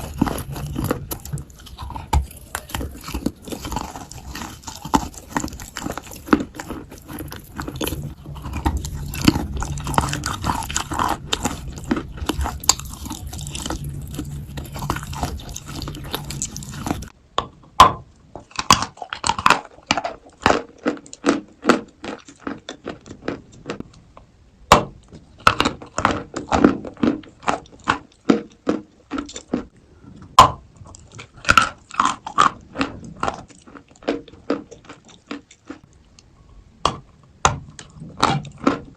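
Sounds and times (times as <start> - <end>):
crunchy chewing of clay: 0.0 - 17.2, 18.0 - 38.9
low background hum: 0.0 - 38.9.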